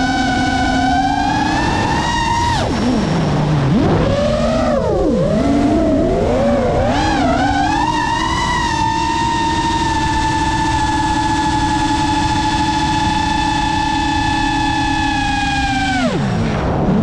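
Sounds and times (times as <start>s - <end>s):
drone motors whining: 0.0s - 17.0s
wind noise: 0.0s - 17.0s.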